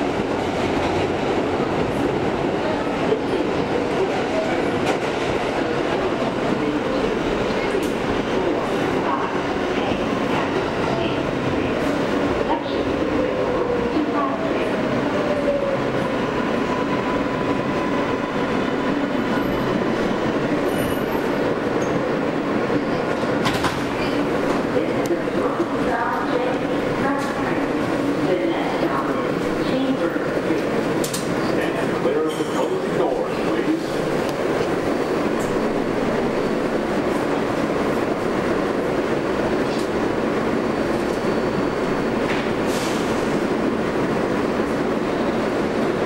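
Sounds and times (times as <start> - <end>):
subway wheels rumbling on rails: 0.0 - 46.0.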